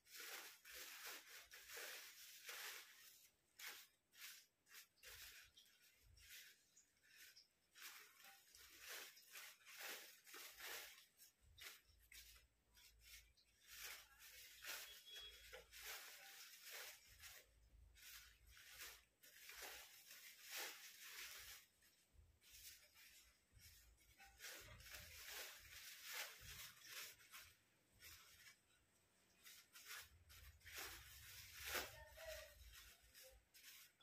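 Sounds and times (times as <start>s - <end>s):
paper rustling and crinkling: 0.0s - 34.0s.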